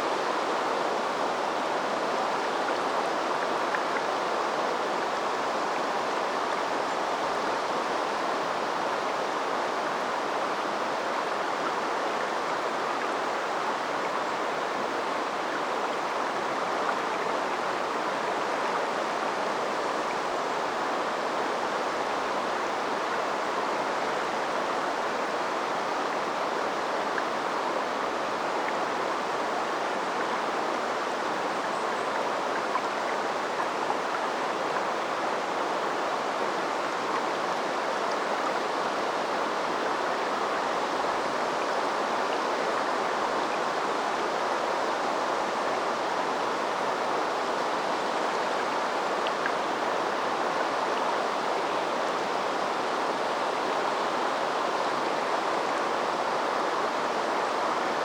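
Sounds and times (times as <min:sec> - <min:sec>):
river water rushing and babbling: 0:00.0 - 0:58.0.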